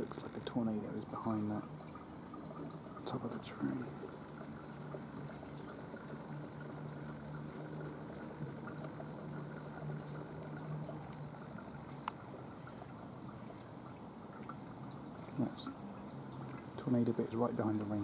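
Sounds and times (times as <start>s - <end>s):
low steady hum: 0.0s - 18.0s
trickling water: 0.0s - 18.0s.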